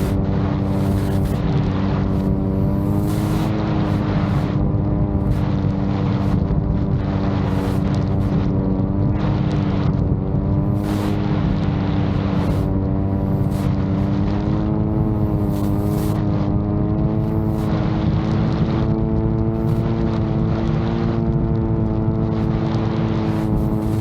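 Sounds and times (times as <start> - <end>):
drone propellers buzzing: 0.0 - 24.0
wind buffeting microphone: 0.0 - 24.0.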